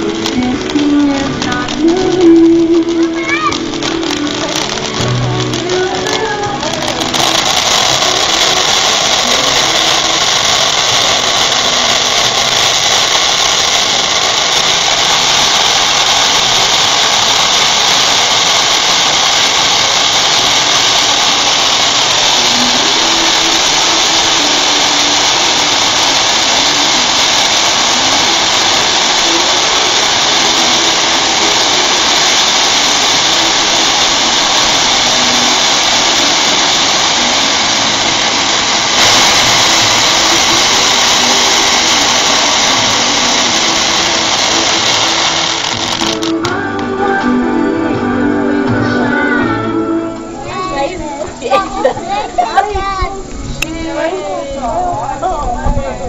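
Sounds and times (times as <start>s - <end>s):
fireworks hissing: 0.0s - 56.0s.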